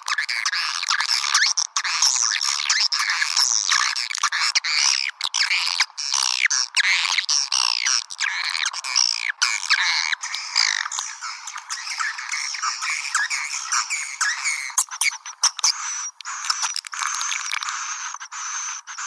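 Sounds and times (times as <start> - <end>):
rapid bird chirping and twittering: 0.1 - 19.0.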